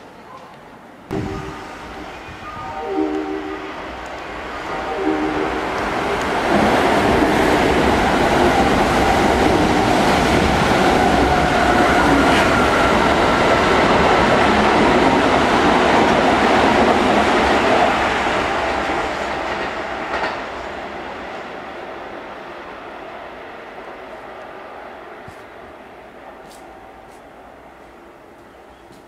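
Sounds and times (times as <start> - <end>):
electric train wheels rumbling: 1.1 - 29.0.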